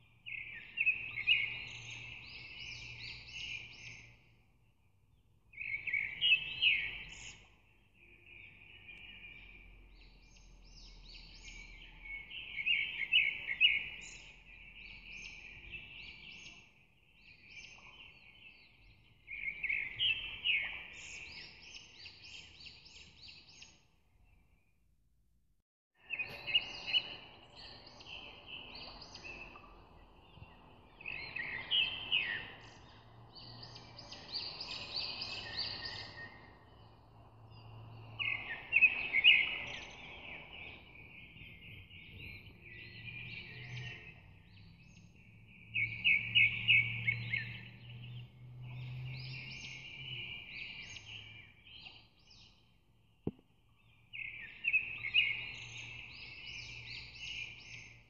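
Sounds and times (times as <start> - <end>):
birds singing: 0.0 - 4.6, 5.5 - 24.4, 26.0 - 53.2, 53.8 - 58.0.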